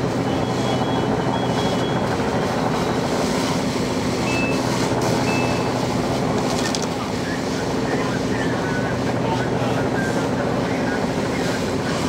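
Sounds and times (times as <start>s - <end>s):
fire engine pump droning: 0.0s - 12.0s.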